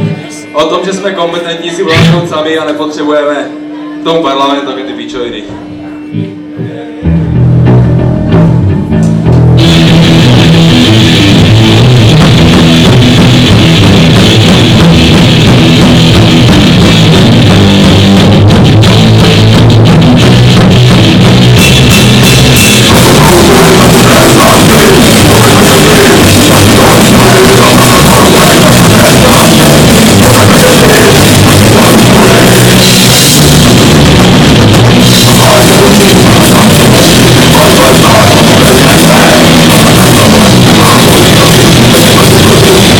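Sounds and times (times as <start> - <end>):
live rock band playing: 0.0 - 4.1, 5.5 - 42.9.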